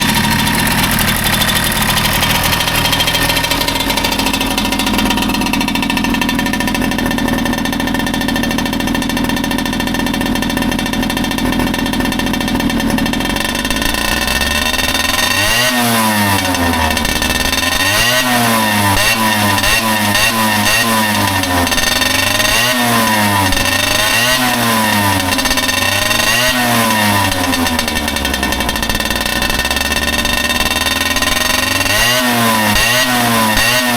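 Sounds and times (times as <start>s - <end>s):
moped engine revving: 0.0s - 33.9s.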